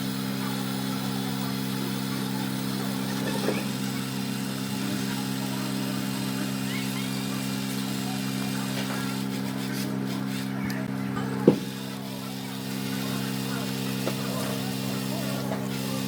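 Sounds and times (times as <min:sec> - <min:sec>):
steady engine-like hum: 0:00.0 - 0:16.0.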